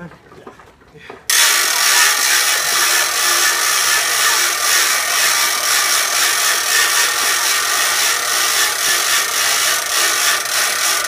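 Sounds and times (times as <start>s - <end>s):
mechanical grinding and whirring: 1.3s - 11.0s.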